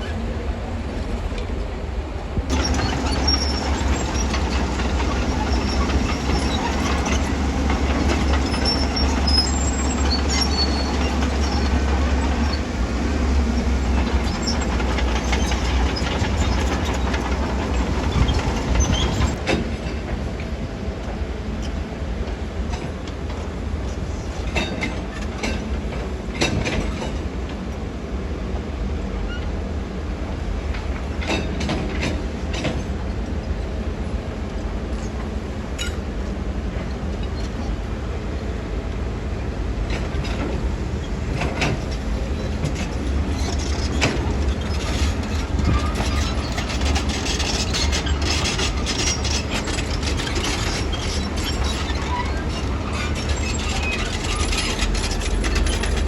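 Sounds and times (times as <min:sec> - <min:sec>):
diesel engine rumbling: 0:00.0 - 0:19.4, 0:30.2 - 0:56.0
metallic clanks from steel tracks: 0:00.0 - 0:56.0.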